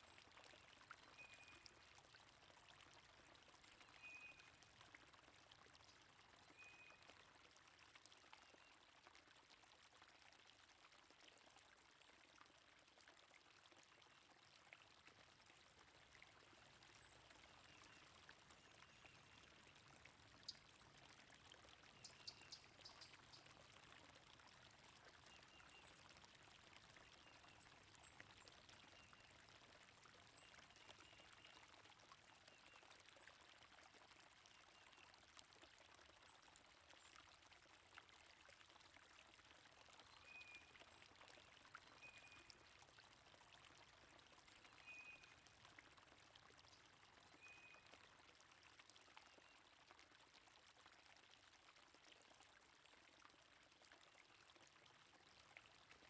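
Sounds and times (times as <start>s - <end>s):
faint flowing water: 0.0s - 56.0s.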